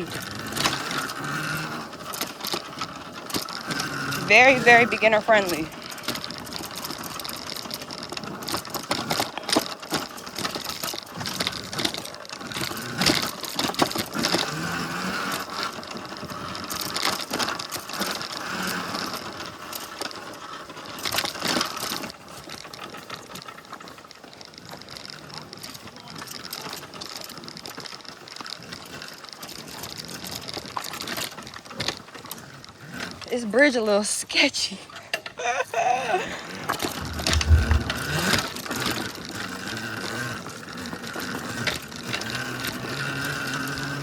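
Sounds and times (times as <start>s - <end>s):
bike rattling over bumps: 0.0s - 33.4s, 36.3s - 44.0s.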